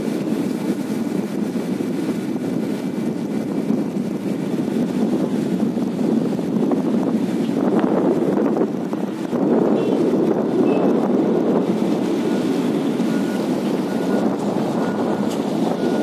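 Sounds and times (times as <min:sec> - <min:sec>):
low travel rumble: 0:00.0 - 0:16.0
wind buffeting microphone: 0:00.0 - 0:16.0.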